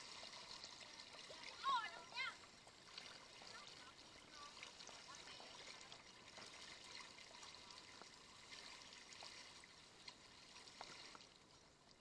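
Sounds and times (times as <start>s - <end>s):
faint ticks and drips: 0.0s - 12.0s
trickling floodwater: 0.0s - 12.0s.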